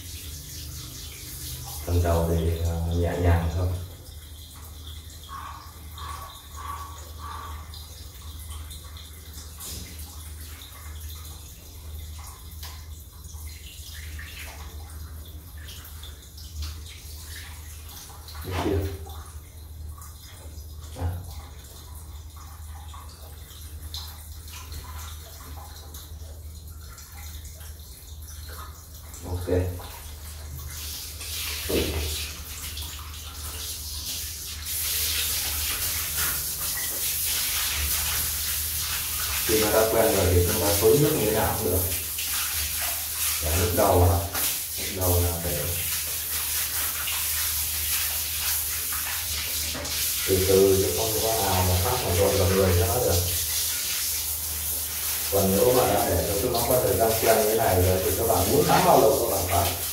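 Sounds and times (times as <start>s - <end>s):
shower water splashing on plastic: 0.0s - 59.9s.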